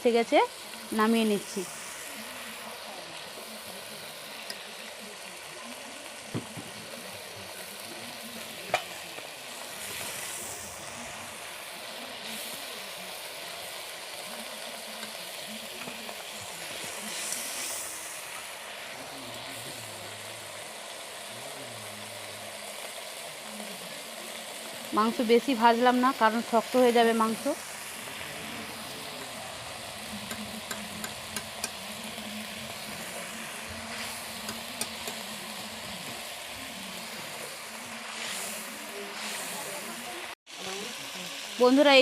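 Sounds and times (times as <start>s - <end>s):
hot oil sizzling: 0.0s - 42.0s.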